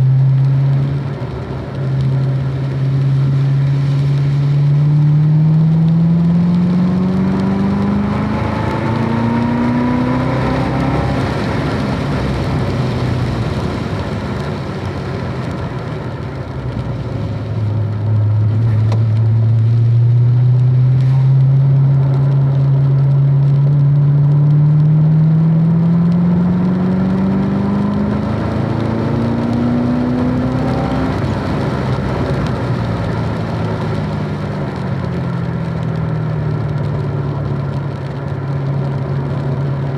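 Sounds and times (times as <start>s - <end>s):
car engine accelerating: 0.0s - 39.9s
road and tyre noise: 0.0s - 39.9s.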